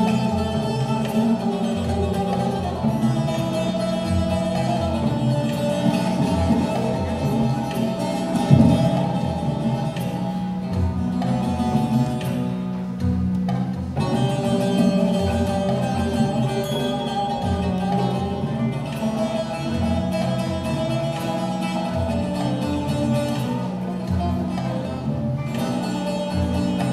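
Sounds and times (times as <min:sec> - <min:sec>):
folk ensemble with plucked strings: 0:00.0 - 0:26.9.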